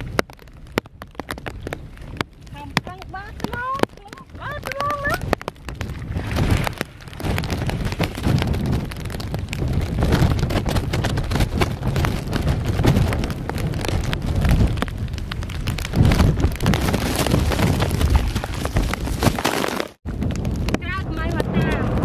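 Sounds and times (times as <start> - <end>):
rain falling: 0.0 - 22.0
wind rumbling on microphone: 0.0 - 22.0.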